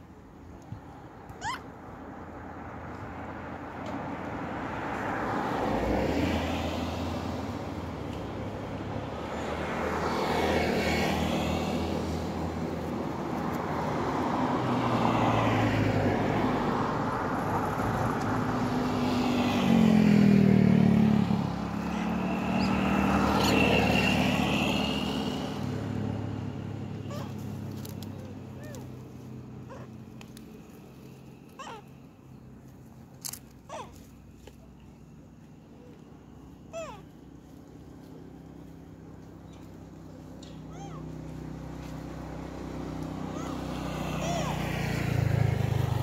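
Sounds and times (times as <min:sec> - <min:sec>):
vehicles passing close by: 0:00.0 - 0:46.0.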